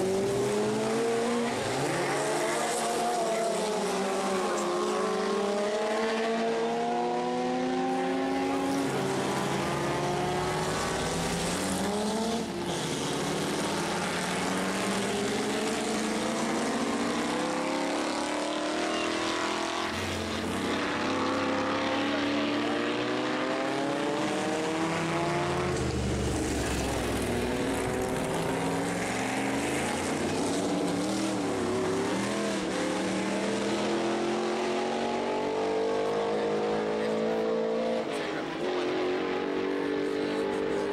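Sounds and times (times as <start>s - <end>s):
racing car engines accelerating: 0.0s - 40.9s.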